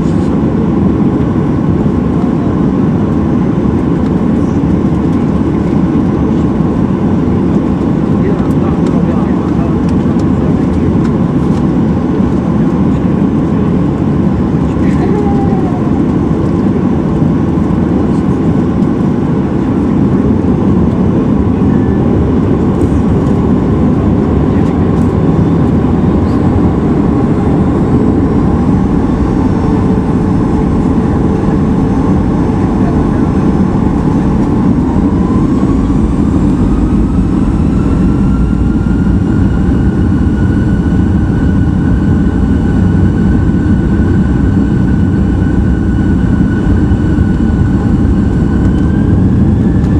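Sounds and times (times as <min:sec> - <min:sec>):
engine whine: 0:00.0 - 0:49.9
jet engine low rumble: 0:00.0 - 0:49.9.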